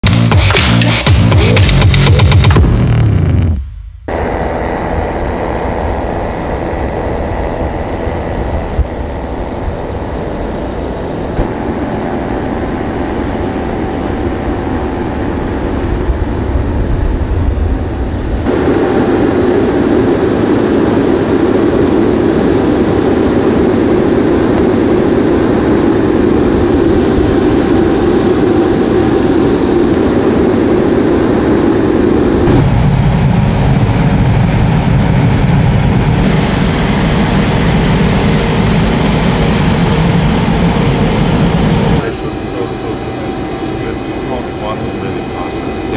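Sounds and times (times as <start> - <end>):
high whine: 0.0 - 45.9
jet engines roaring: 4.1 - 45.9.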